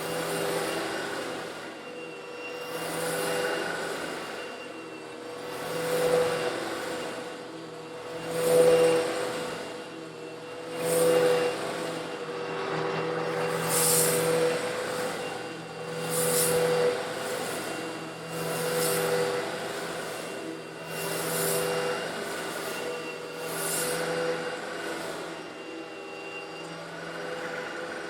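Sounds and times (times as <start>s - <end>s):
vacuum cleaner motor hum: 0.0s - 28.0s.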